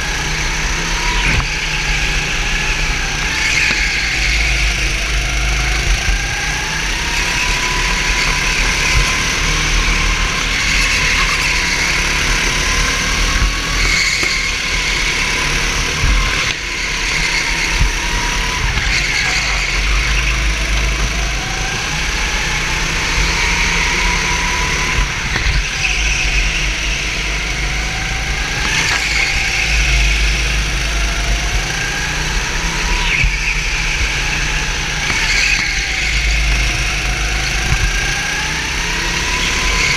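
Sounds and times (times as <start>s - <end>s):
kart engine revving: 0.0s - 39.9s
low rumble of vibration and wind: 0.0s - 39.9s.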